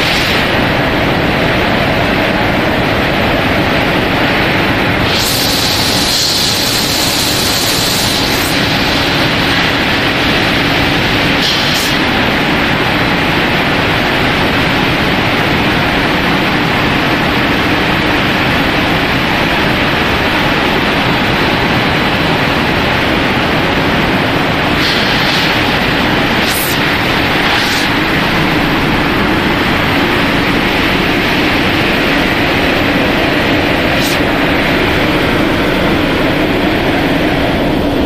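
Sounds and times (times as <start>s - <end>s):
machinery rushing hiss: 1.8s - 38.0s.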